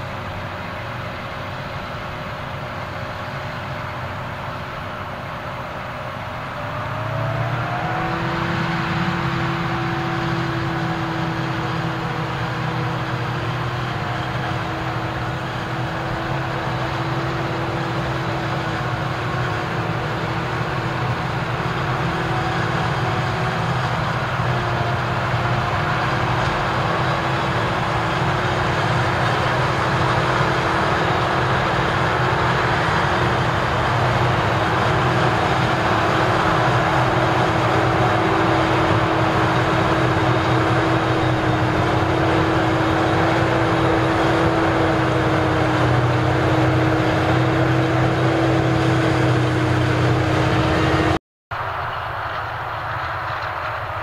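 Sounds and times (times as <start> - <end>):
tractor running: 0.0 - 54.0.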